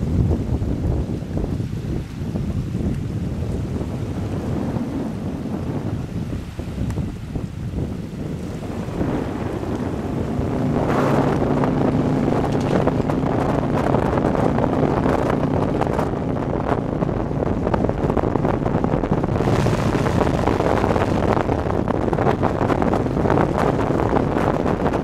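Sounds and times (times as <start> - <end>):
motorcycle engine hum: 0.0 - 25.0
wind rushing over microphone: 0.0 - 25.0.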